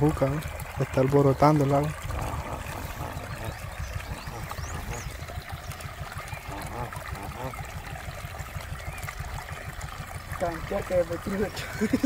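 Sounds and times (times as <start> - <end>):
water trickling and gurgling: 0.0 - 12.0.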